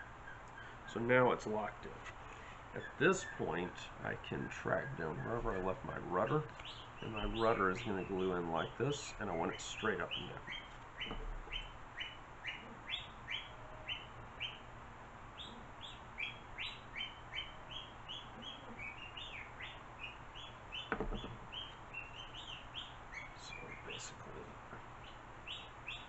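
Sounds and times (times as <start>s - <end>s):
bird chirping: 0.0s - 14.7s, 15.3s - 26.0s.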